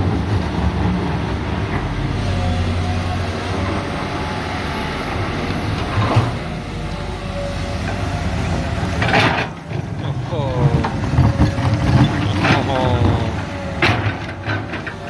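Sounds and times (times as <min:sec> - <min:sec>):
excavator diesel engines rumbling: 0:00.0 - 0:15.0.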